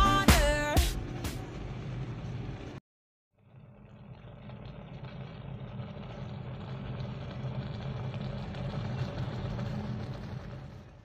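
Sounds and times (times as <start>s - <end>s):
noodles sizzling and bubbling: 1.4s - 11.0s.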